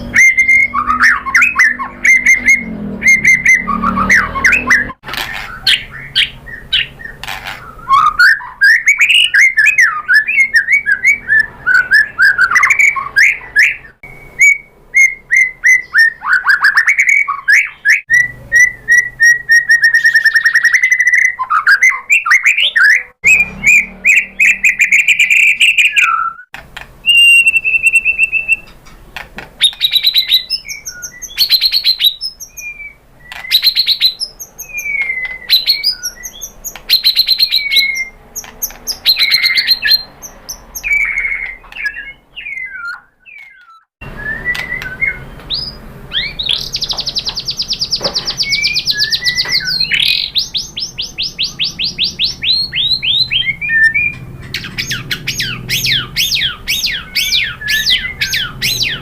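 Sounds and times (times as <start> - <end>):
bird whistling song: 0.0 - 28.8, 29.6 - 59.0.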